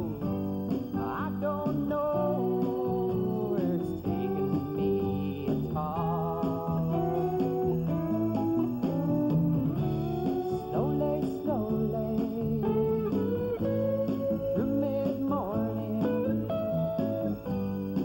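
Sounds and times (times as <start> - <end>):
country blues slide guitar: 0.0 - 18.0.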